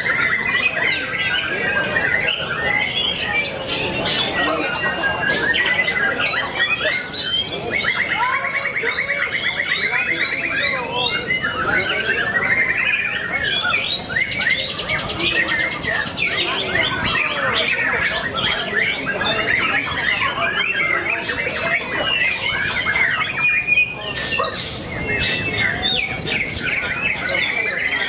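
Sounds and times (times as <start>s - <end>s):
caged songbirds singing: 0.0s - 28.0s.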